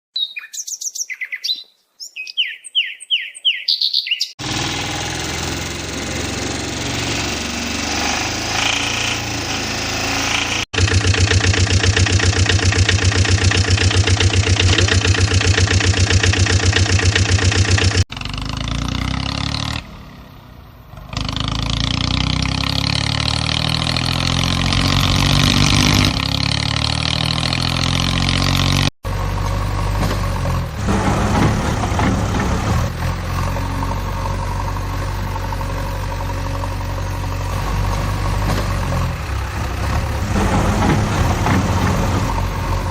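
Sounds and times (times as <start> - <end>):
engine idling and revving: 4.4 - 42.9.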